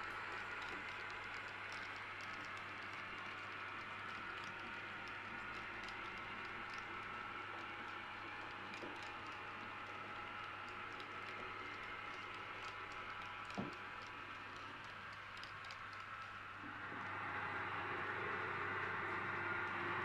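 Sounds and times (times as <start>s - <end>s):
faint motor hum: 0.0s - 20.0s.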